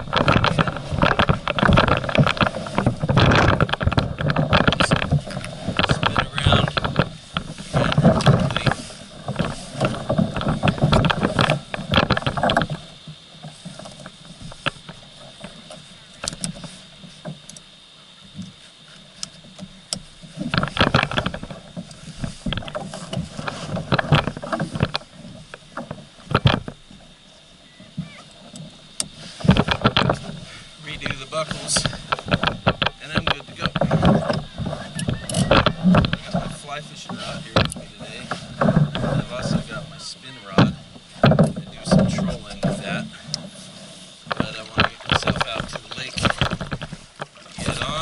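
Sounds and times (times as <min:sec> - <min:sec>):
knocks and clatters in plastic kayak: 0:00.0 - 0:48.0.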